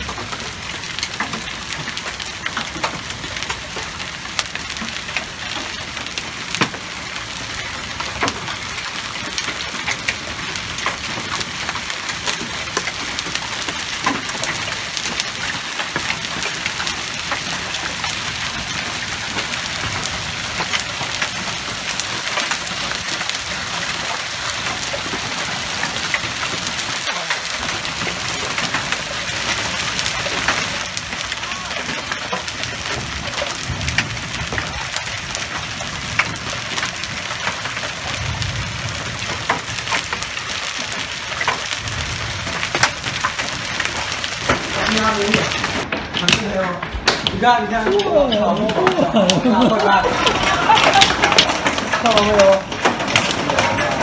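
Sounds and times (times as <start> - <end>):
hailstones ticking: 0.0 - 54.0
rain hissing: 0.0 - 54.0.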